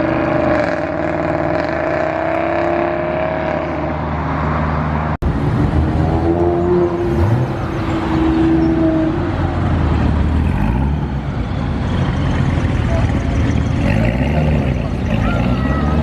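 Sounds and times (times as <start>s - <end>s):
car engine revving: 0.0s - 4.4s, 5.3s - 16.0s.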